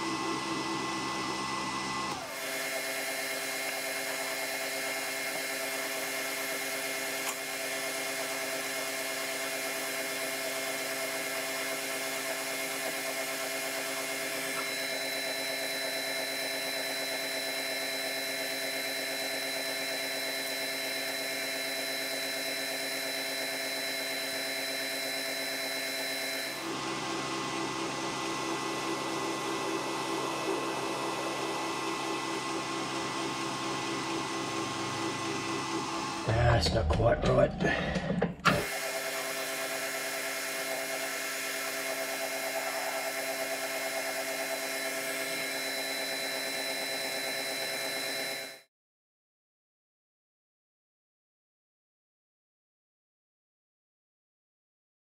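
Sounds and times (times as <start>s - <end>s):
metal lathe whine: 0.0s - 36.3s, 38.5s - 48.6s.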